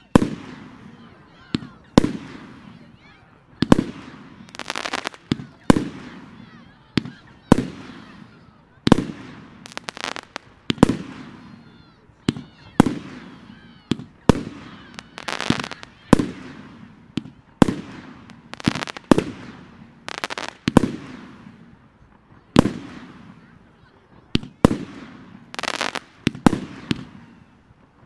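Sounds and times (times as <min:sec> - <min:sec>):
fireworks bangs and pops: 0:00.0 - 0:28.0.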